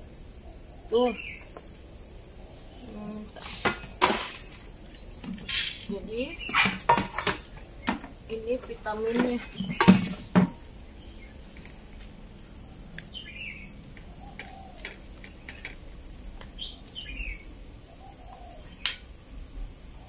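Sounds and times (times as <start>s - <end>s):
high insect drone: 0.0s - 20.0s
birds chirping: 0.4s - 12.0s, 12.7s - 19.1s.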